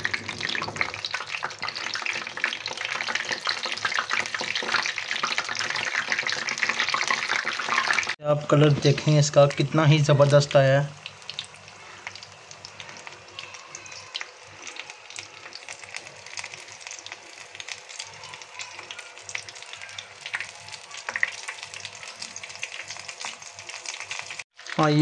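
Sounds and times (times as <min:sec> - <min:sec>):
food deep-frying in oil: 0:00.0 - 0:25.0.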